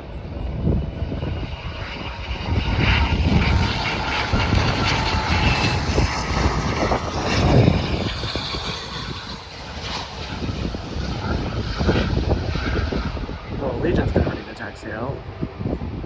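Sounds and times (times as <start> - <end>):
faint engine whine: 0.0 - 16.0
jet engines rumbling: 0.0 - 16.0
wind buffeting microphone: 0.0 - 16.0.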